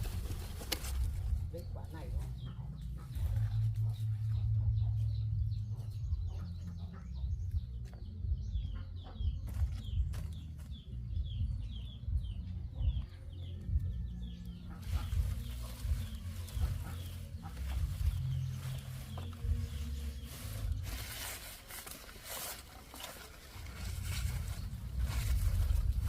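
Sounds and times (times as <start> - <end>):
birds chirping: 0.0 - 26.0
low rumble of handling and wind: 0.0 - 26.0.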